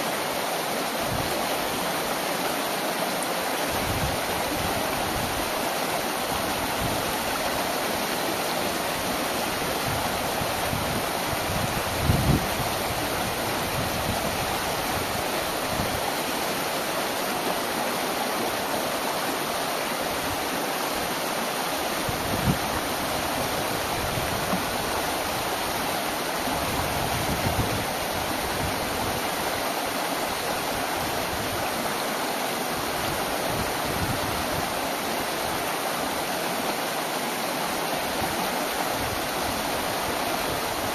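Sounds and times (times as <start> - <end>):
stream rushing over rock: 0.0 - 40.9.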